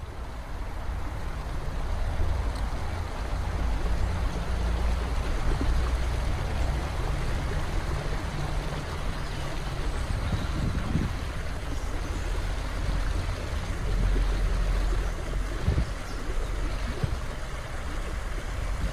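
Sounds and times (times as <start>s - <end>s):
waterfall pouring into pool: 0.0s - 18.9s.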